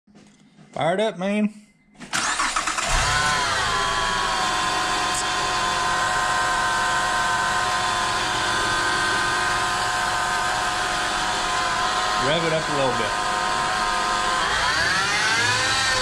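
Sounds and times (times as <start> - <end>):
high-pitched alternator whine: 2.1 - 16.0
car engine revving and idling: 2.4 - 16.0.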